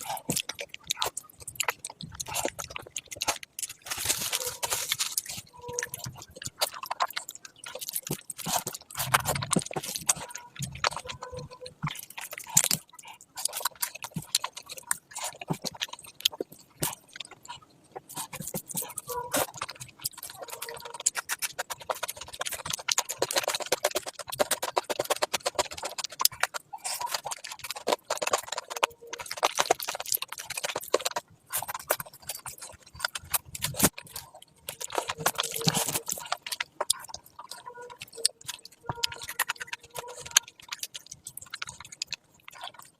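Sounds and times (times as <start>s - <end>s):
wet chewing mouth sounds: 0.0s - 42.9s.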